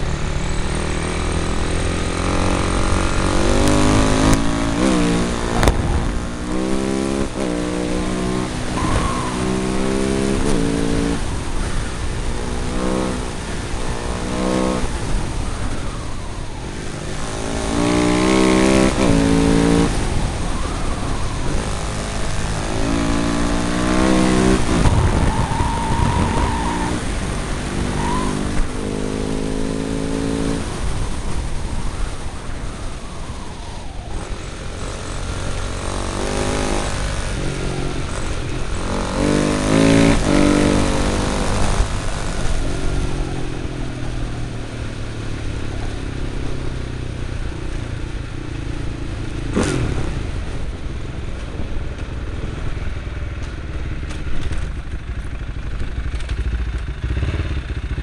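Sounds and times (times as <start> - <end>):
motorcycle engine accelerating: 0.0 - 58.0
wind rumble: 0.0 - 58.0.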